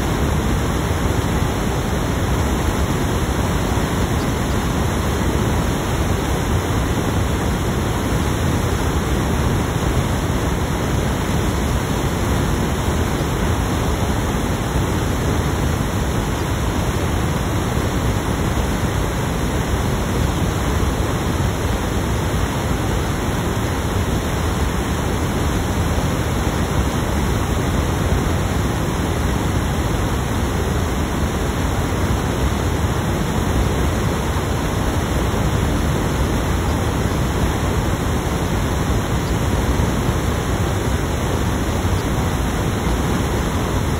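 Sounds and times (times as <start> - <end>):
loud static hiss: 0.0 - 43.9.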